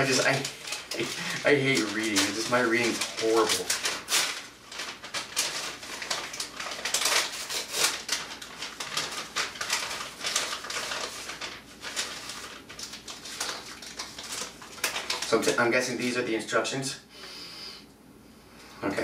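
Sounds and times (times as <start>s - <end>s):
plastic bags rustling: 0.0s - 16.2s.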